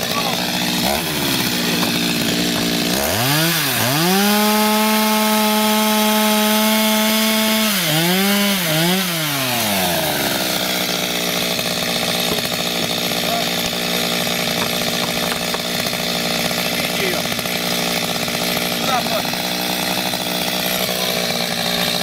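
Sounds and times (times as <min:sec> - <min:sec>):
chainsaw running: 0:00.0 - 0:22.0.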